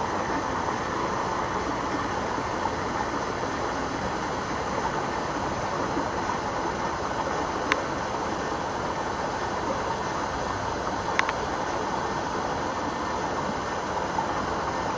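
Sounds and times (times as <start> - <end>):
rushing outdoor background noise: 0.0 - 14.9.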